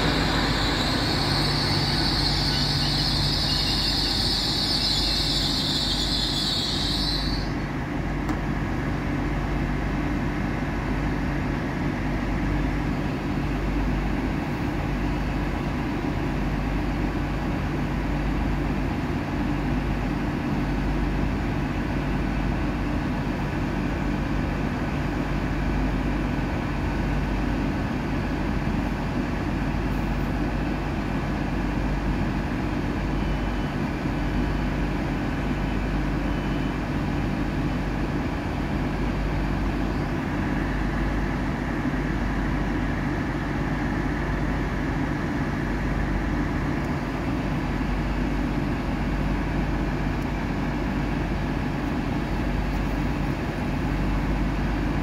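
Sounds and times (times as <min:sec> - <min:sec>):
train diesel engines idling: 0:00.0 - 0:55.0.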